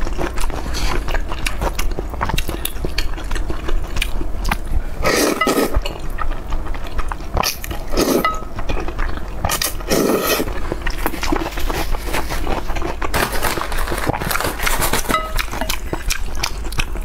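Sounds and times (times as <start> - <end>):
wet chewing and biting: 0.0 - 17.0.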